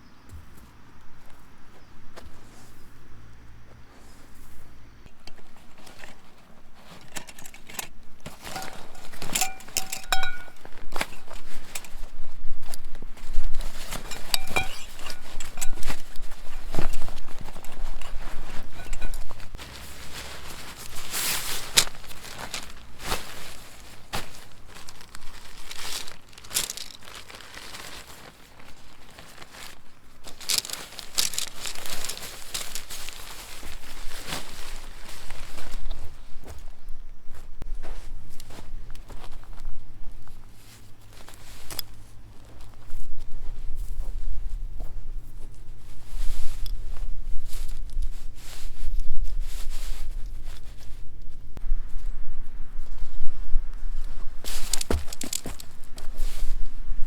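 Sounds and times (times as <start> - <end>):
rustling and crinkling handling: 0.0 - 57.0
footsteps: 0.3 - 3.0, 3.6 - 52.2, 53.7 - 57.0.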